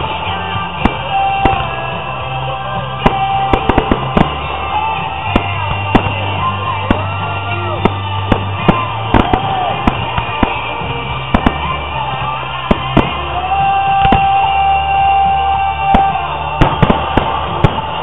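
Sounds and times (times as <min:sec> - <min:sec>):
fireworks bangs: 0:00.0 - 0:18.0
music playing: 0:00.0 - 0:18.0.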